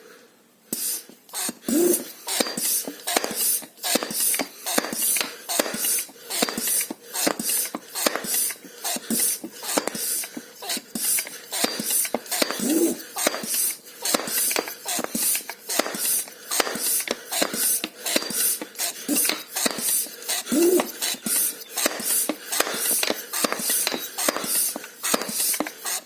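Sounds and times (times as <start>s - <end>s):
hand pump air hissing: 0.7s - 26.0s
man panting heavily: 1.6s - 26.0s.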